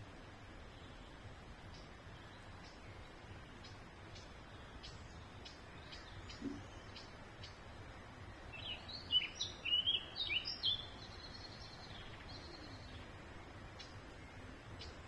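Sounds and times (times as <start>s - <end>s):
low background noise: 0.0s - 15.0s
songbird chirping: 0.0s - 15.0s.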